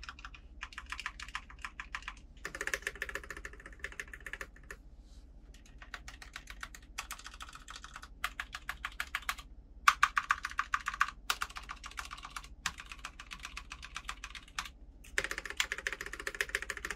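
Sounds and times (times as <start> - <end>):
mechanical keyboard typing: 0.0 - 4.8, 5.6 - 16.9.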